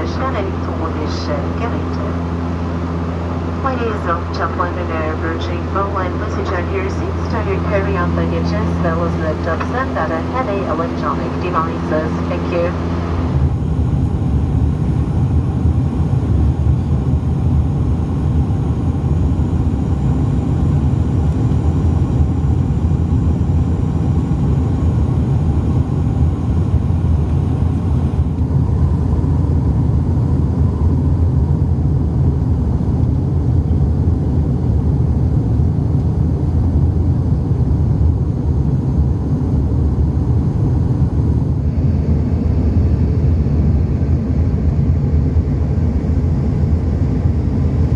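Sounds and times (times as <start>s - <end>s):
airliner engines droning: 0.0s - 47.9s.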